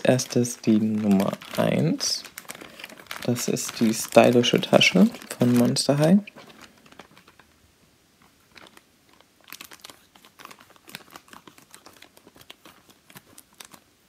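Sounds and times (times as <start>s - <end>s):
plastic bag crinkling: 0.0s - 7.6s, 8.2s - 14.0s.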